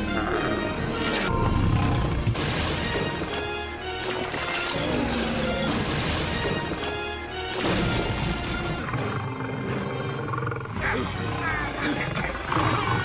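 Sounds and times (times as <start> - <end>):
dramatic soundtrack music: 0.0 - 13.0.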